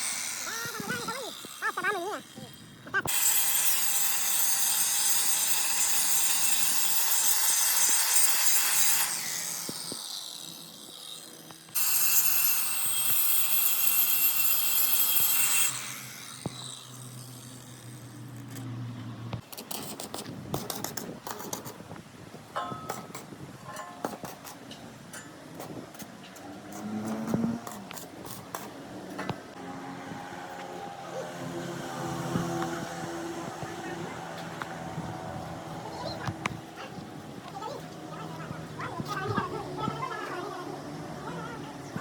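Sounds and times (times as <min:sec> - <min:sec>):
power grinder on steel: 0:00.0 - 0:18.7, 0:26.7 - 0:42.0.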